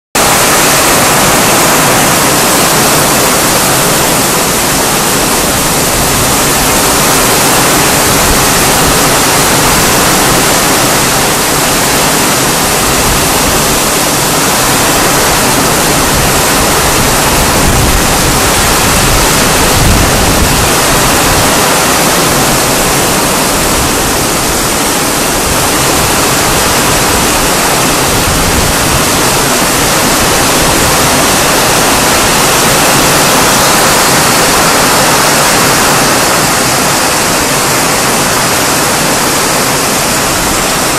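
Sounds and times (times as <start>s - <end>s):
heavy rain pouring: 0.2s - 40.9s.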